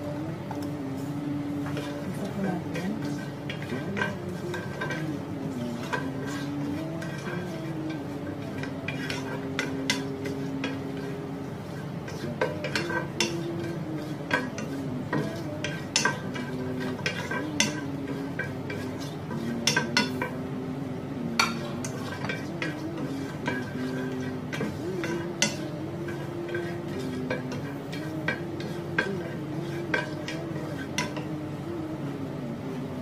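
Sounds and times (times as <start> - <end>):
wooden spatula scraping a pan: 1.0 - 20.4, 21.4 - 31.3.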